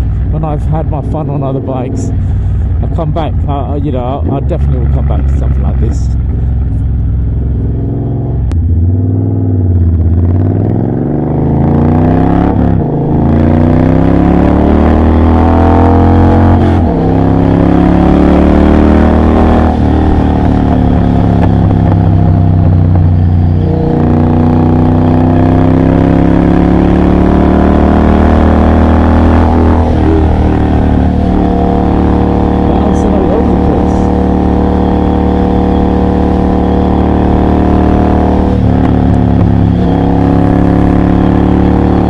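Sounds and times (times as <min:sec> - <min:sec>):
motorcycle engine through gears: 0:00.0 - 0:42.0.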